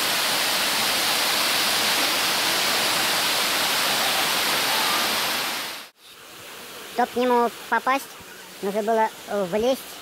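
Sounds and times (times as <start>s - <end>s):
waterfall rushing into pool: 0.0s - 10.0s.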